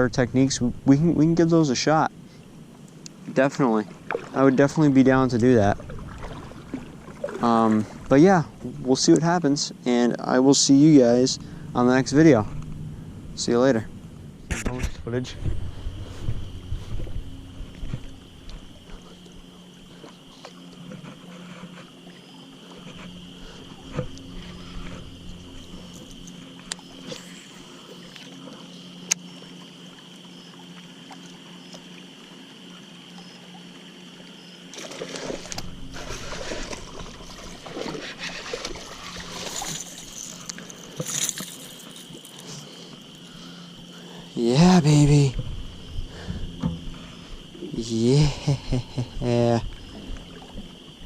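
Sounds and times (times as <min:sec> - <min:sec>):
insect drone: 0:00.0 - 0:51.0
water and handling noise: 0:02.8 - 0:09.3, 0:14.5 - 0:33.4, 0:34.6 - 0:50.9.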